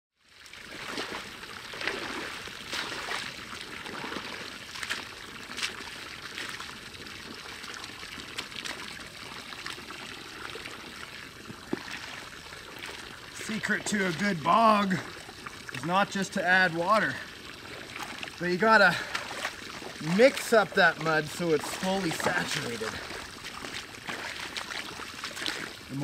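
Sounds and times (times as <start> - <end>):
water pouring from hose: 0.2 - 26.0
mud splashing and squelching: 0.3 - 26.0.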